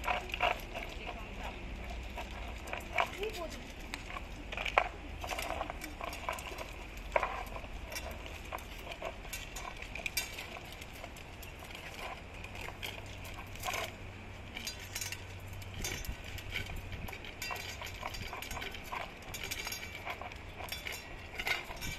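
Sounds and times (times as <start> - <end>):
dogs chewing and lapping: 0.0 - 21.9.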